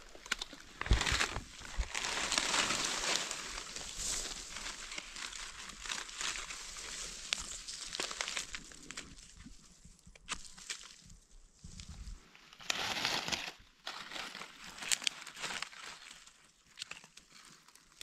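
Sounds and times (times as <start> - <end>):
dry leaves and grass rustling: 0.0 - 18.0.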